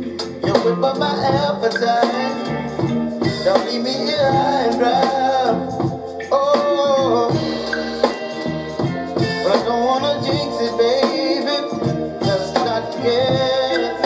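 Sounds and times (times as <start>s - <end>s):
song with singing over speakers: 0.0s - 14.0s.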